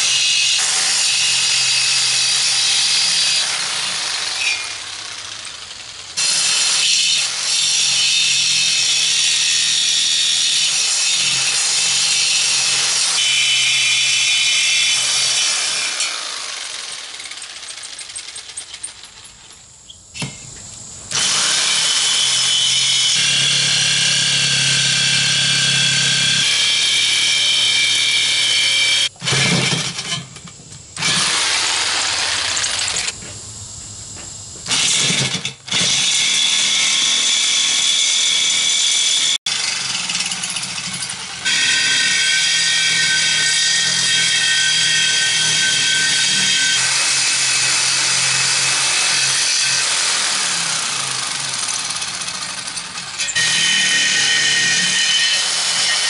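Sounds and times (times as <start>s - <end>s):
jigsaw cutting steel: 0.0s - 19.3s, 21.1s - 30.2s, 31.0s - 33.2s, 34.7s - 56.0s.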